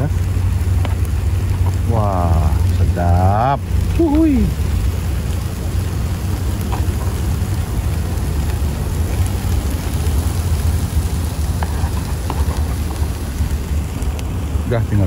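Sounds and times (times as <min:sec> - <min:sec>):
food sizzling on a grill pan: 0:00.0 - 0:15.0
low steady rumble: 0:00.0 - 0:15.0.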